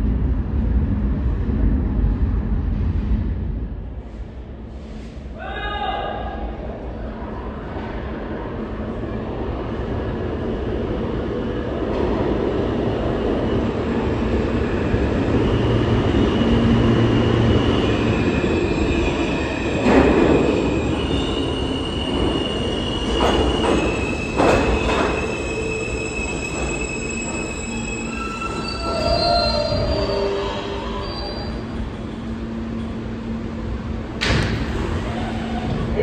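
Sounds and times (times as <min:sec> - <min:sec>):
subway train wheels rumbling: 0:00.0 - 0:36.0.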